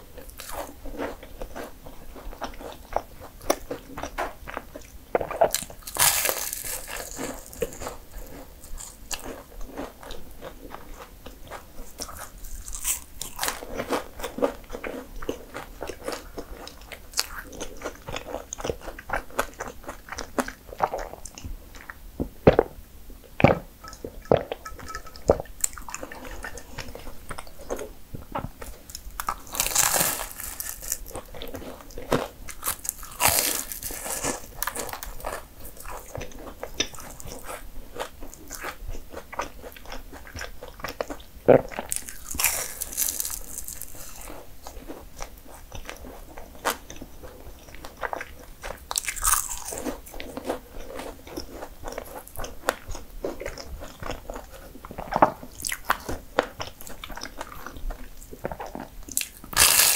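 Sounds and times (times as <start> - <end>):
crunching flaky pastry: 0.2 - 22.0, 23.4 - 59.9.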